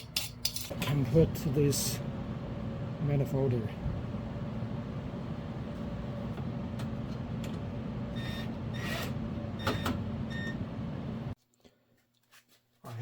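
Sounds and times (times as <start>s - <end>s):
steady background hum: 0.0s - 11.4s.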